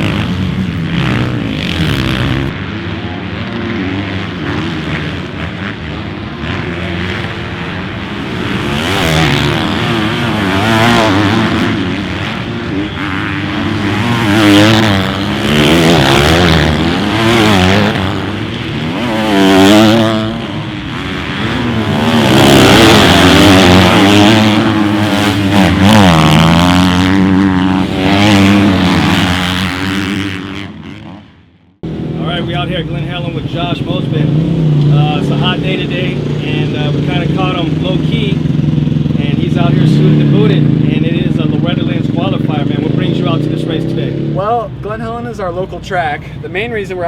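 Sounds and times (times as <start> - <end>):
motocross bikes revving: 0.0 - 47.0.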